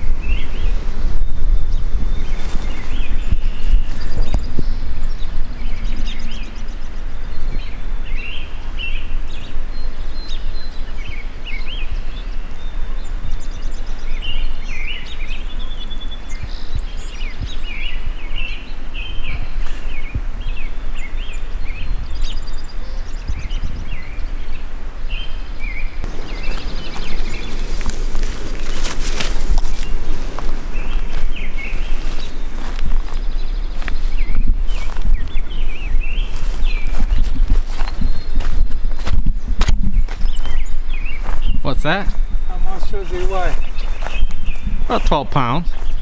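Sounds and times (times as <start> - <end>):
low outdoor rumble: 0.0 - 46.0
songbirds chirping and singing: 0.0 - 46.0.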